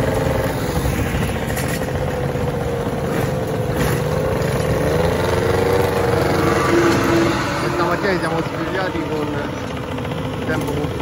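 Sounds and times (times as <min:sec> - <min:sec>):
motor scooter engines running: 0:00.0 - 0:11.0.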